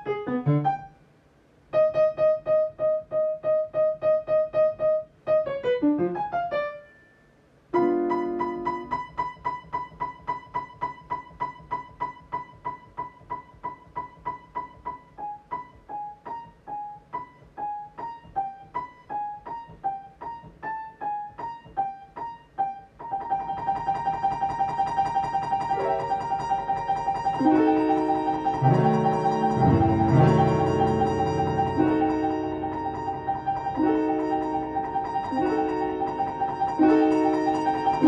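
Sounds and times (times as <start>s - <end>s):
solo piano playing: 0.0s - 38.0s.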